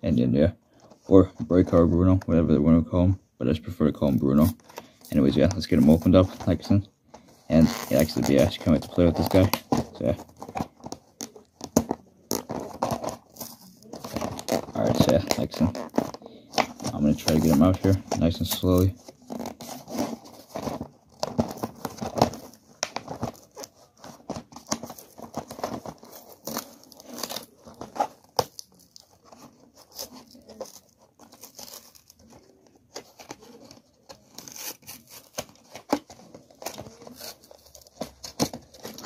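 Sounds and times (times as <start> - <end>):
cardboard tearing: 7.5 - 39.0
plastic blister pack crinkling: 7.6 - 39.0.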